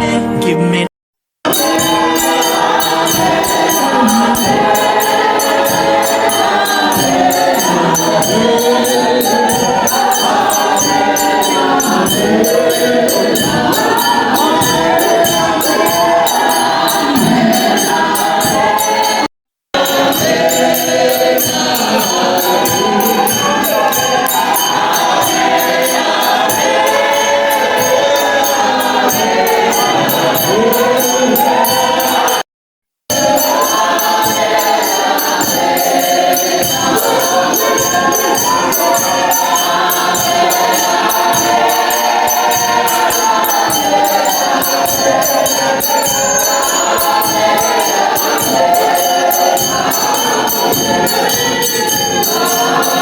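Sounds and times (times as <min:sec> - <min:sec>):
choir singing over quick beat: 0:01.5 - 0:32.4, 0:33.1 - 0:53.0.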